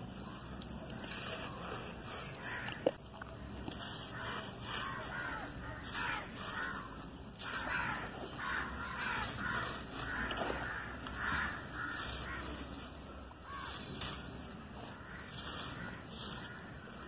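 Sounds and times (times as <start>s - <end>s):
charcoal crunching in hand: 0.0s - 17.0s
crows cawing: 1.0s - 3.0s, 3.9s - 17.0s.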